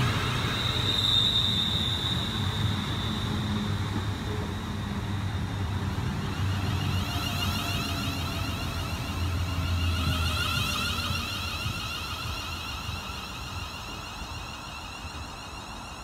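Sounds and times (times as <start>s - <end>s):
thin high whine: 0.0s - 16.0s
train wheels rumbling on rails: 0.0s - 16.0s.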